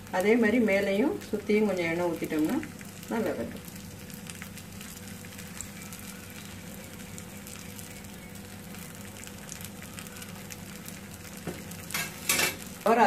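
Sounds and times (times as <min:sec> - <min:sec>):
batter sizzling in oil: 0:00.0 - 0:13.0.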